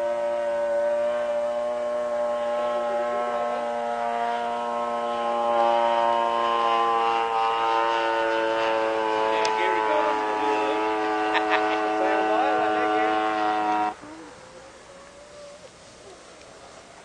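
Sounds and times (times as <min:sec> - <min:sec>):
model plane engine buzzing: 0:00.0 - 0:14.0.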